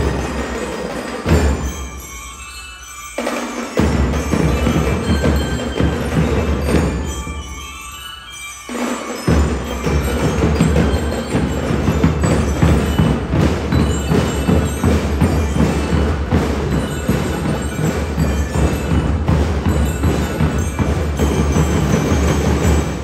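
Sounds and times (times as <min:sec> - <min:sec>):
bell lyres ringing a melody: 0:00.0 - 0:23.0.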